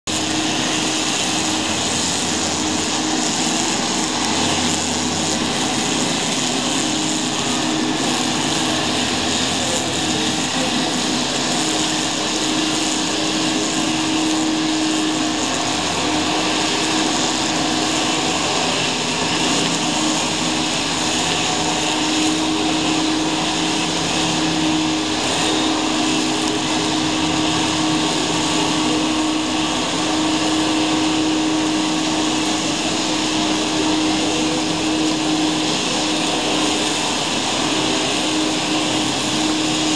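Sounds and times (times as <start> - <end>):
brushcutters whining: 0.1 - 39.9.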